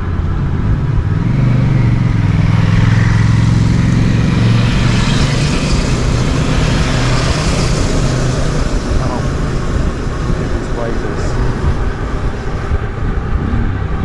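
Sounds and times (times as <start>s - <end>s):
road and wind hiss: 0.0s - 14.0s.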